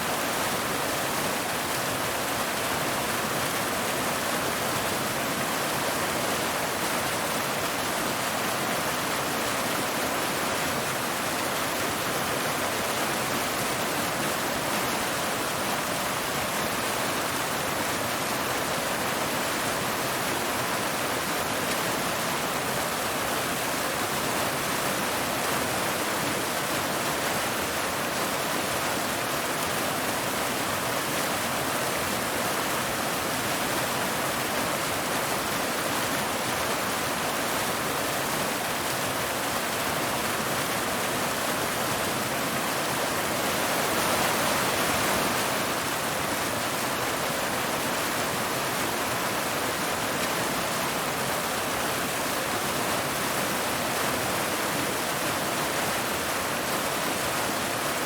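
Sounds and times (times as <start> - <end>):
water cascading over rocks: 0.0 - 58.0.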